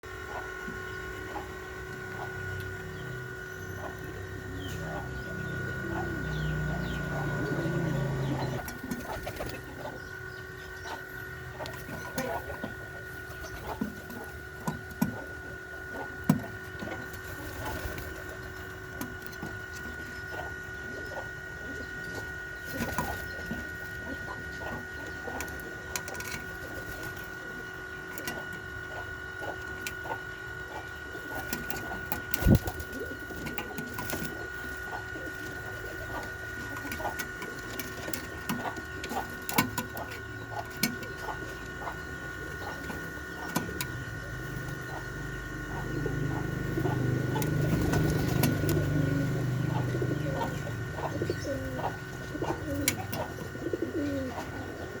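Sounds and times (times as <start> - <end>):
dove cooing: 0.1 - 55.0.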